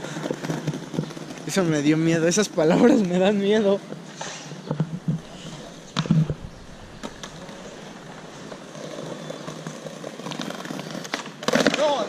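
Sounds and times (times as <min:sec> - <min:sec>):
skateboard clacking on stone: 0:00.0 - 0:01.7, 0:03.8 - 0:12.0
skateboard wheels rolling: 0:00.0 - 0:12.0.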